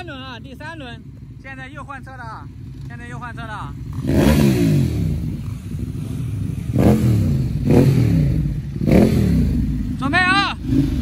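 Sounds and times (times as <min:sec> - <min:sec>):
motorcycle throttle blips: 0:00.0 - 0:11.0
motorcycles idling: 0:00.0 - 0:11.0.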